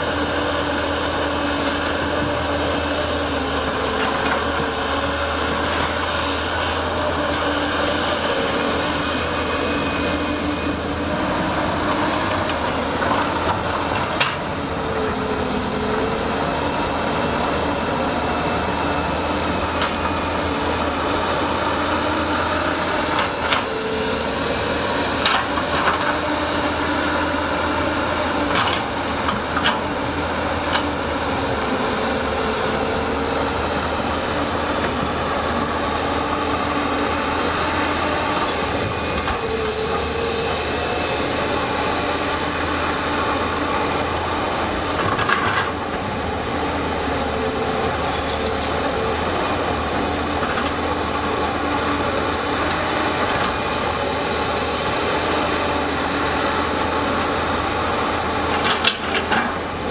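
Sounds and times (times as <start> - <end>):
excavator diesel engines running: 0.0 - 59.9.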